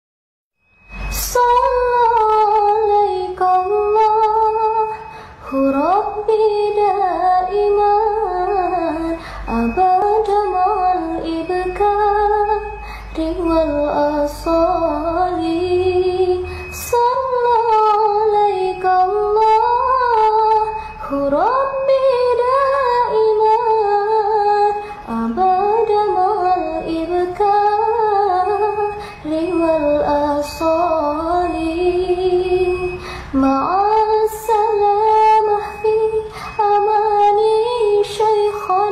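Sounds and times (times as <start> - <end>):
woman singing: 1.1 - 38.9.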